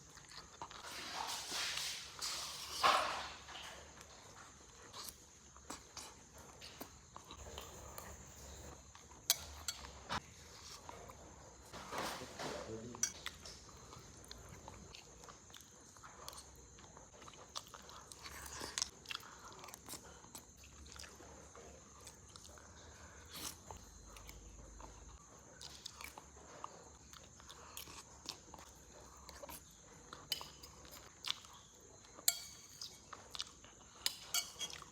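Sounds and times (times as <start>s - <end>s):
chewing and biting food: 0.0s - 1.5s, 3.0s - 11.8s, 13.1s - 34.9s.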